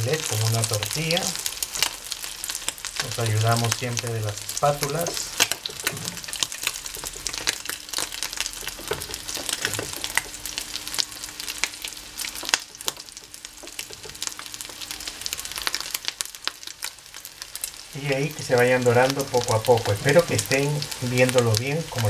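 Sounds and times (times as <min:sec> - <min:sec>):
fritters frying with crackling pops: 0:00.0 - 0:22.0.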